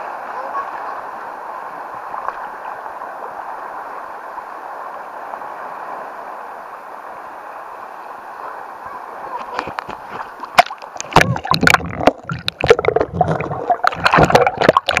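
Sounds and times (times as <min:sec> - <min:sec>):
sea water rushing around rocks: 0:00.0 - 0:15.0.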